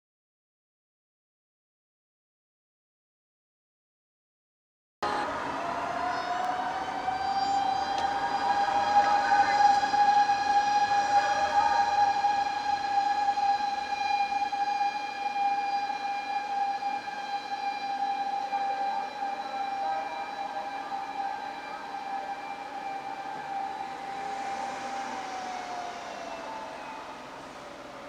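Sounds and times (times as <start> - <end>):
fire engine siren wailing: 5.0 - 28.0.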